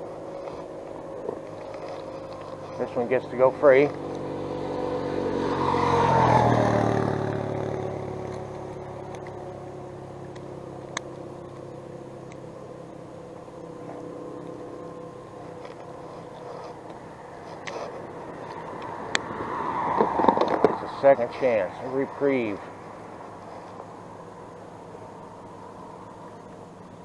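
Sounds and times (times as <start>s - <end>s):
engine passing by: 0.0s - 27.0s
steady low hum: 0.0s - 27.0s.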